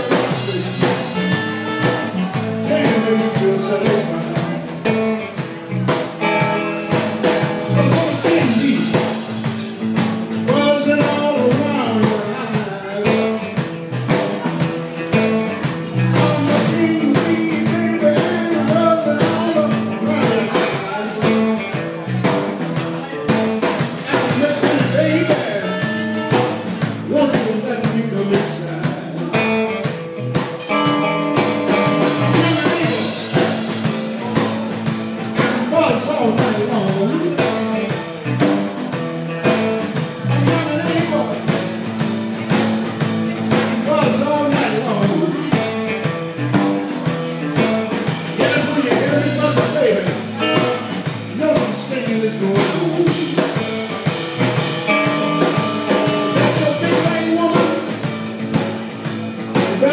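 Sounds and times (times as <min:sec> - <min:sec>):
electric blues band playing: 0:00.0 - 0:59.9.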